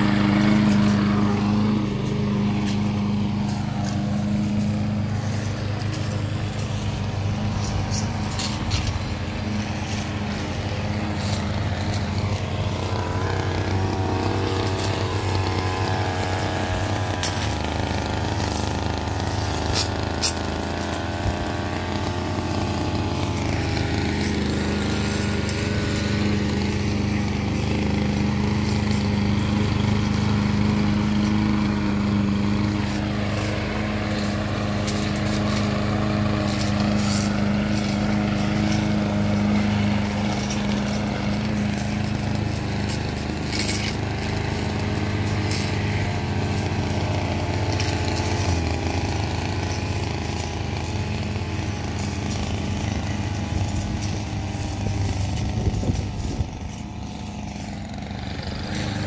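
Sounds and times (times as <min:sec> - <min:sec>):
lawn mower engine cutting grass: 0:00.0 - 0:59.0.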